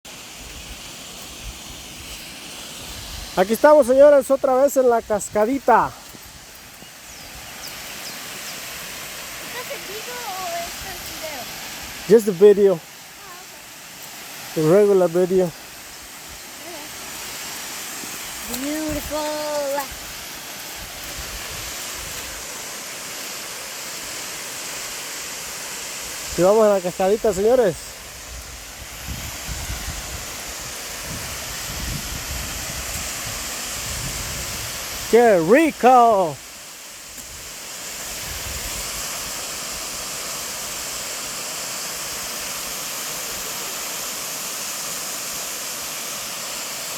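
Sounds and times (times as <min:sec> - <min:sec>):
small waterfall rushing: 0:00.0 - 0:46.9.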